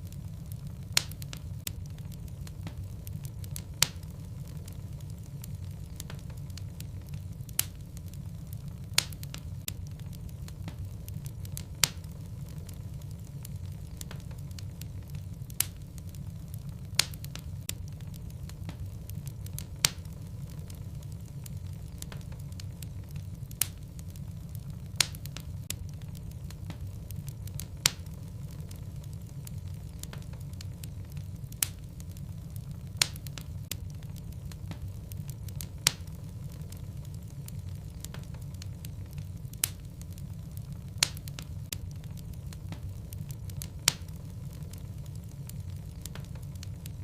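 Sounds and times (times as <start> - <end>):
logs crackling in fireplace: 0.0 - 47.0
low fire rumble: 0.0 - 47.0
sharp fire pops: 0.0 - 47.0.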